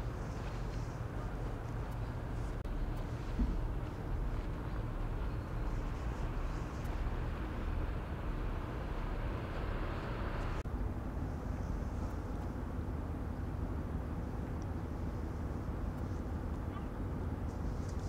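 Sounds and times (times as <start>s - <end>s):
faint engine hum: 0.0s - 18.0s
harbour ambience rumble: 0.0s - 18.0s.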